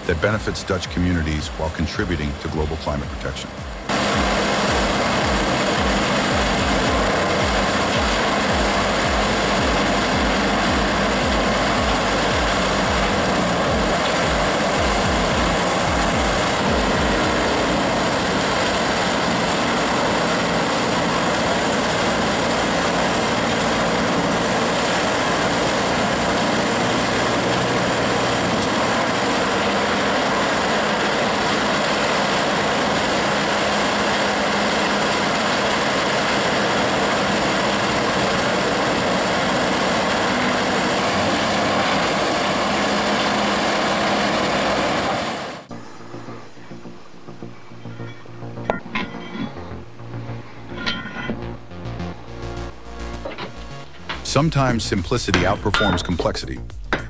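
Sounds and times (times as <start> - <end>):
shredder grinding branches: 0.0 - 45.8.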